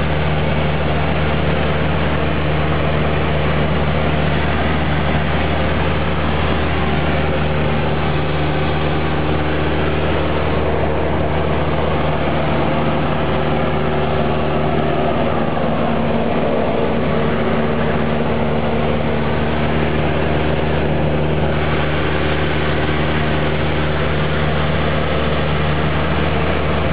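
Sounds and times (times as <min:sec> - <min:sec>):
airplane engine droning in cabin: 0:00.0 - 0:26.9.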